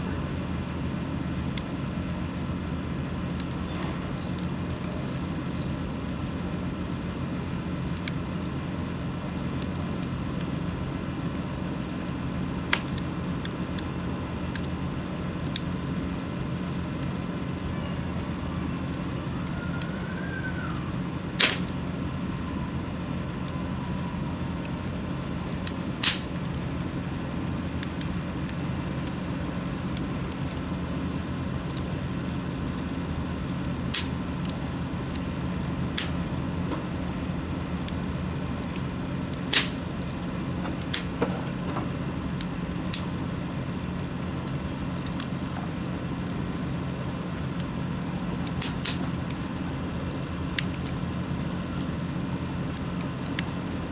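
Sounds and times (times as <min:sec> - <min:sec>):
steady low hum: 0:00.0 - 0:53.9
wood fire crackling and popping: 0:00.0 - 0:53.9.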